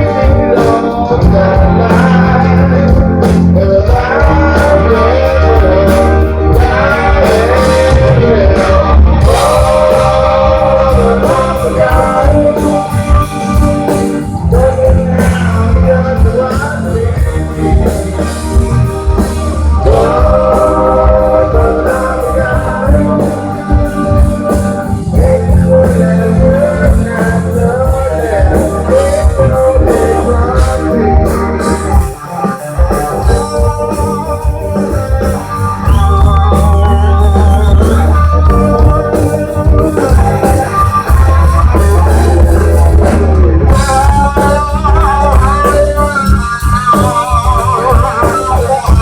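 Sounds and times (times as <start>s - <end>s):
bass guitar: 0.0s - 49.0s
electric guitar: 0.0s - 49.0s
person singing: 0.0s - 49.0s.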